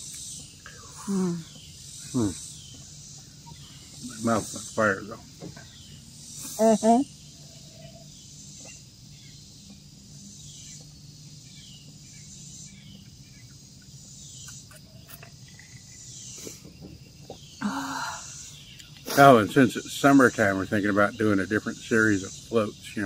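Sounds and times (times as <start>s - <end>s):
insects chirping: 0.0s - 23.0s
short repeating insect call: 0.0s - 23.0s.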